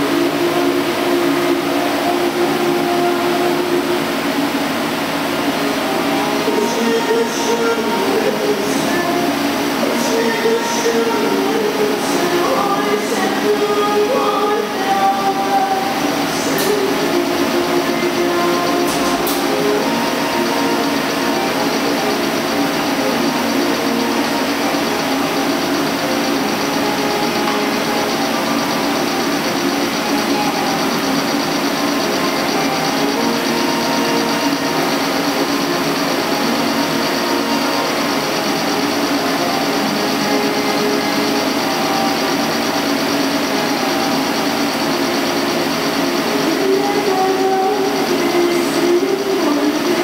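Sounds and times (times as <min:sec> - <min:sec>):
lathe cutting metal: 0:00.0 - 0:50.0.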